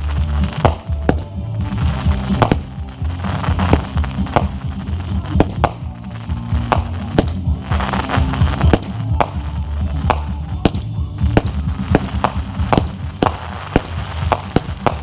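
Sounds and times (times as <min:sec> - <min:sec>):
firework bangs: 0:00.0 - 0:15.0
music playing: 0:00.0 - 0:15.0.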